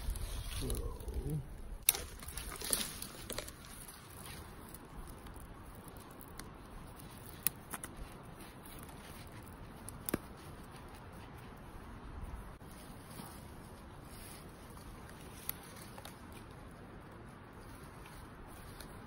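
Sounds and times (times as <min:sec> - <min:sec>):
vine crackling as it is bent: 0:00.0 - 0:19.0.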